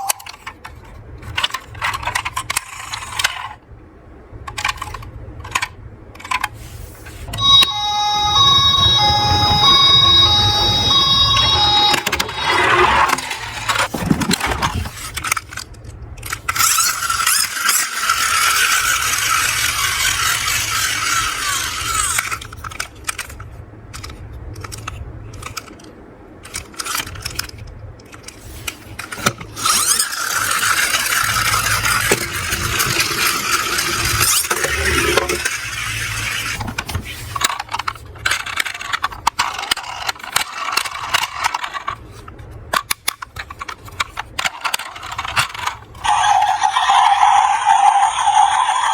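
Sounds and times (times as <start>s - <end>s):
toy cars rolling and rattling: 0.0s - 3.6s, 4.4s - 48.9s.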